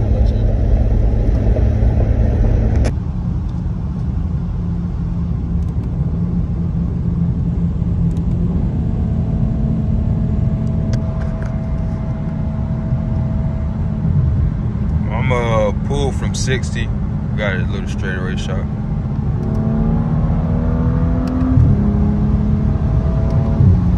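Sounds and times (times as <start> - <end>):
car engine droning at cruising speed: 0.0 - 23.9
road and tyre noise: 0.0 - 23.9.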